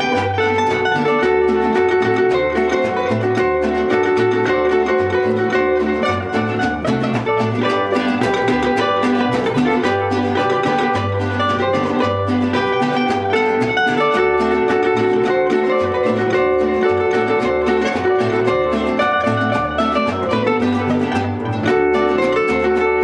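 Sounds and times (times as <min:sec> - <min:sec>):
guitars strummed quickly: 0:00.0 - 0:23.0
plucked bass notes: 0:00.0 - 0:23.0.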